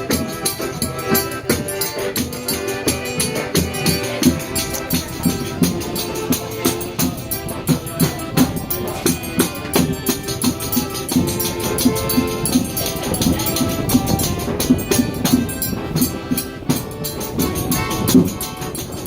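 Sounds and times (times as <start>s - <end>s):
accordion notes: 0.0s - 19.0s
rattling percussion: 0.0s - 19.0s
steady drum beat: 0.0s - 19.0s.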